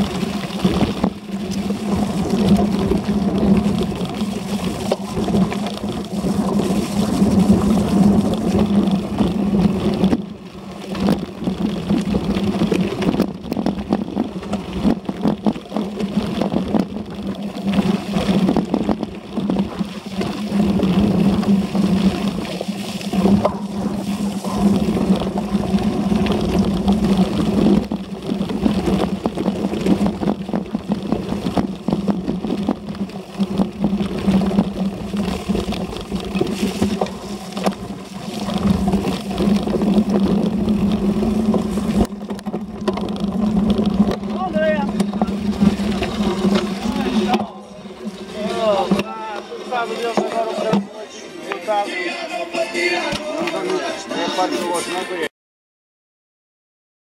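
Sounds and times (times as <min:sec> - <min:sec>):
wind noise: 0:00.0 - 0:49.2
bike rattling on bumps: 0:00.0 - 0:51.1
bike tyre hum: 0:00.0 - 0:55.2.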